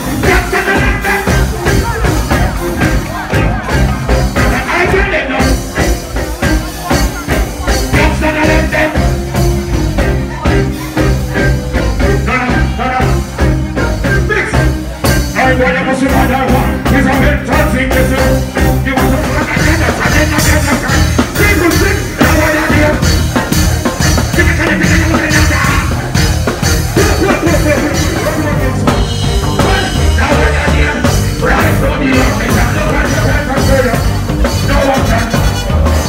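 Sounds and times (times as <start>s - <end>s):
bass line and drums: 0.0s - 36.0s
person singing: 0.0s - 36.0s.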